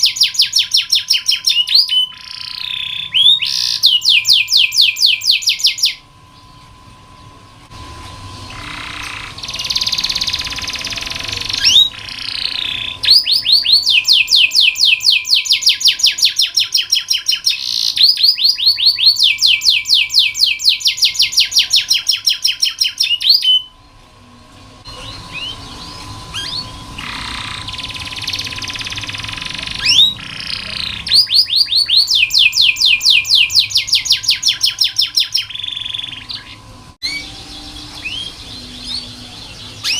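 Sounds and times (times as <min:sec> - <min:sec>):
canary singing trills: 0:00.0 - 0:23.9, 0:24.9 - 0:39.9.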